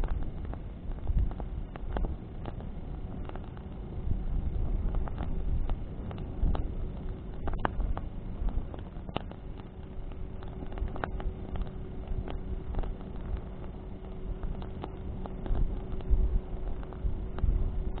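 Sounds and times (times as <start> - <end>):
bonfire flames rumbling: 0.0 - 18.0
burning branches crackling: 0.0 - 18.0
wind: 0.0 - 18.0.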